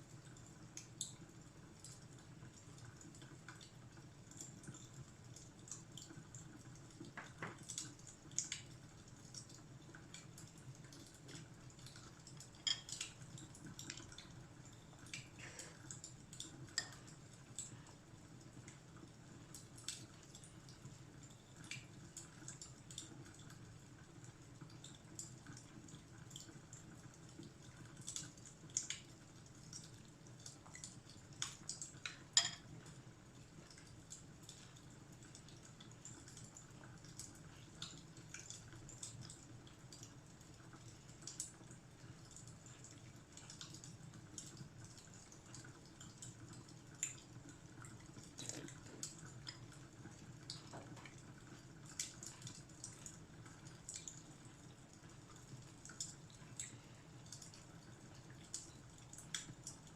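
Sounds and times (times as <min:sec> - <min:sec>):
fire crackling in a fireplace: 0:00.0 - 0:59.9.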